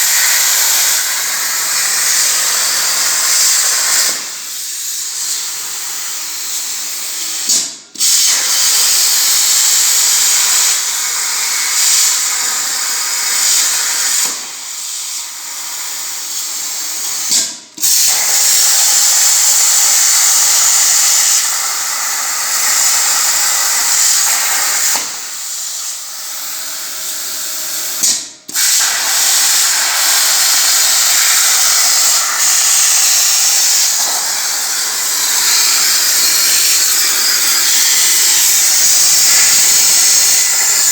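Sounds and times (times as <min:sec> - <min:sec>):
plasma torch hissing: 0:00.0 - 0:26.4, 0:27.0 - 0:40.9.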